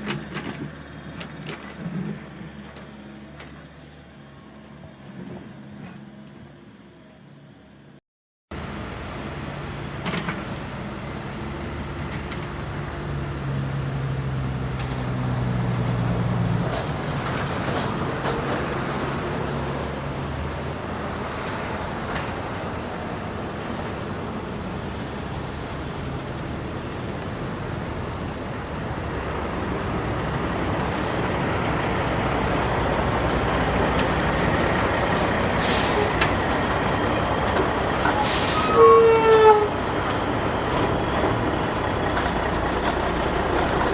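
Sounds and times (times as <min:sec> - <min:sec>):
heavy diesel machinery engine: 0:00.0 - 0:08.0, 0:08.6 - 0:43.9
engine and mechanical rush: 0:00.0 - 0:43.9.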